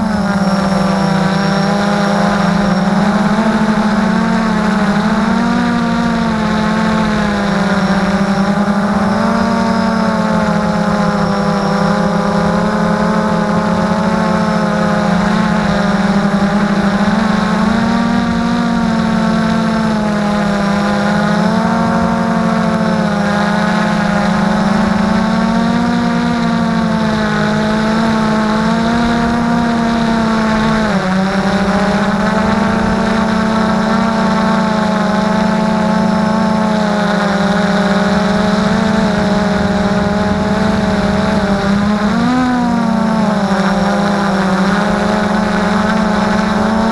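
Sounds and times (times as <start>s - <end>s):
drone motors buzzing whine: 0.0s - 46.9s.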